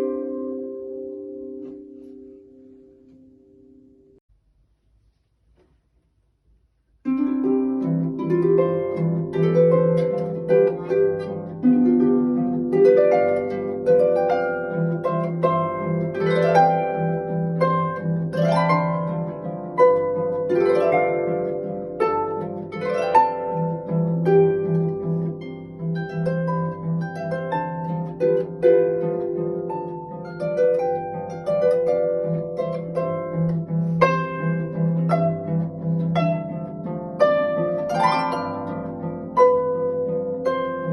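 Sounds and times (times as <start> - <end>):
harp arpeggios: 0.0 - 4.2, 7.0 - 40.9.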